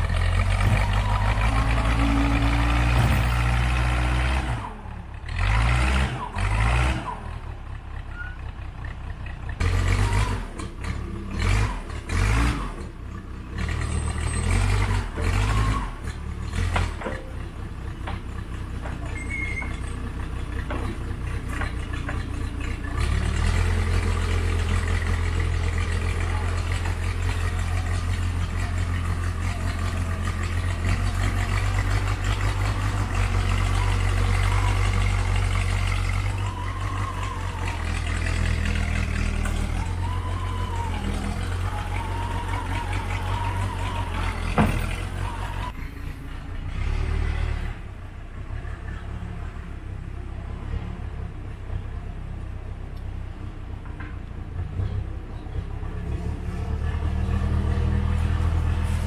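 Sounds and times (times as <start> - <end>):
backhoe engine running: 0.0 - 59.0.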